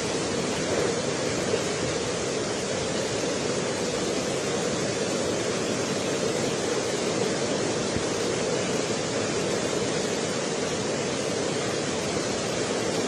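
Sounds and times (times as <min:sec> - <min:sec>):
flooded river rushing: 0:00.0 - 0:13.0.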